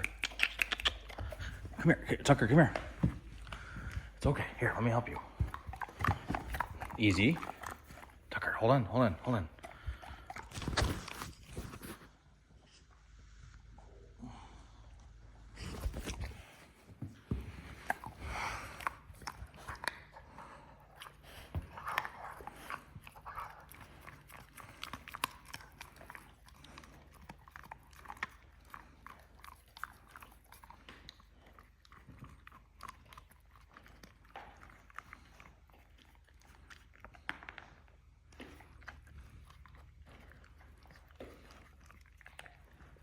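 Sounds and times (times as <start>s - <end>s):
dog chewing a treat: 0.0s - 12.0s, 15.6s - 43.0s.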